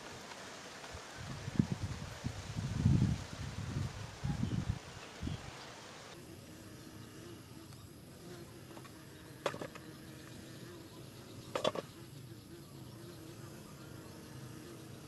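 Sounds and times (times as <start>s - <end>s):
faint steady buzzing: 0.0s - 15.0s.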